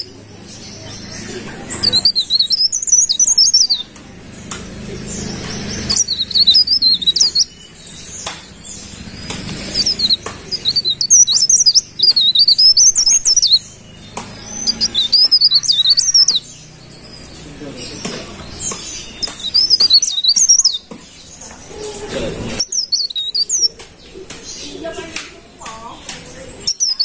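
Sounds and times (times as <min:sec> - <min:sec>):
leaf warbler singing: 0:00.0 - 0:27.0.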